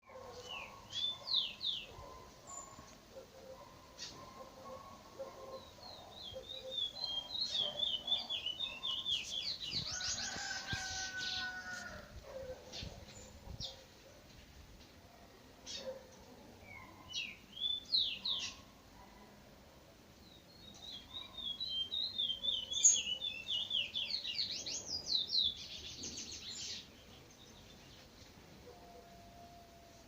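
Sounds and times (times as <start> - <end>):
songbird singing: 0.0 - 14.2, 15.6 - 19.4, 20.0 - 30.0.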